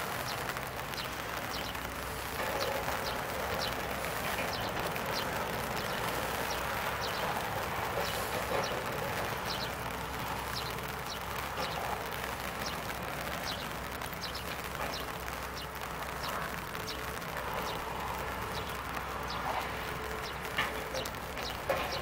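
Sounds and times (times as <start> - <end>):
excavator diesel engine running: 0.0 - 22.0
small birds chirping: 0.1 - 22.0.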